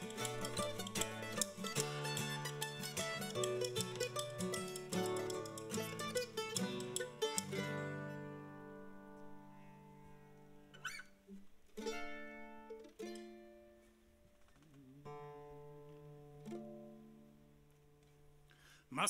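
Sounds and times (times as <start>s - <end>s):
mandolin chords: 0.0s - 18.5s
acoustic guitar strumming: 0.0s - 18.7s.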